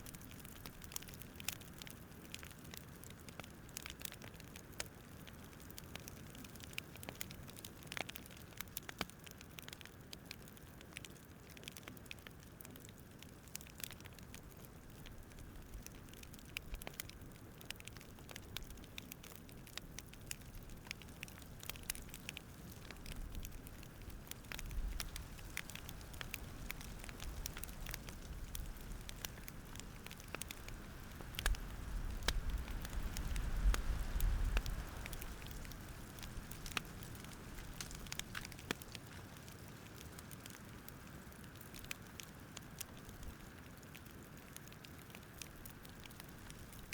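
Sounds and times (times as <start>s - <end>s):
campfire crackling: 0.0s - 46.9s
soft steady hiss: 0.0s - 46.9s.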